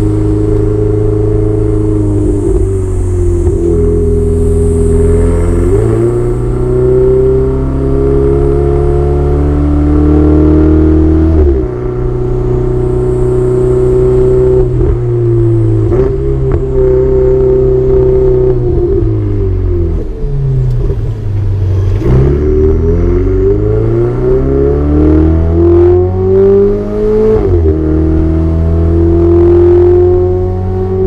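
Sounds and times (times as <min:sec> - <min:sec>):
sports car engine and exhaust: 0:00.0 - 0:31.0.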